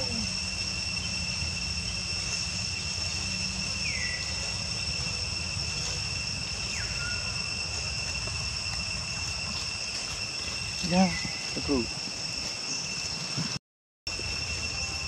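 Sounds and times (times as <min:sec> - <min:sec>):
insects droning in chorus: 0:00.0 - 0:15.0.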